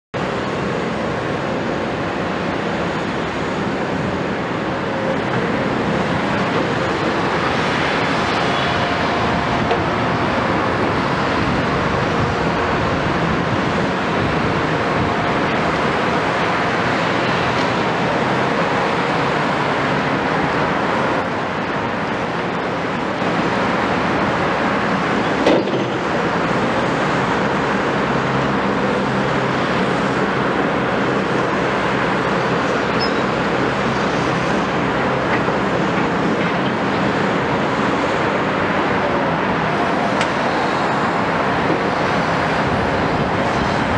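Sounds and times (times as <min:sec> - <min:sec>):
excavator diesel engines: 0:00.2 - 0:43.9.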